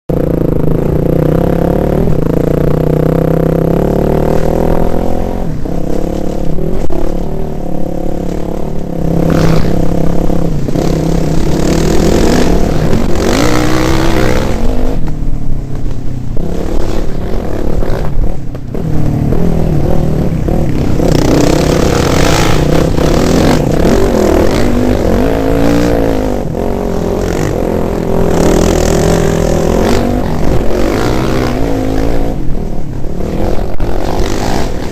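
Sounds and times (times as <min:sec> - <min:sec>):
dirt bike engine revving: 0:00.1 - 0:15.2, 0:16.3 - 0:34.9
rushing noise: 0:00.2 - 0:34.9.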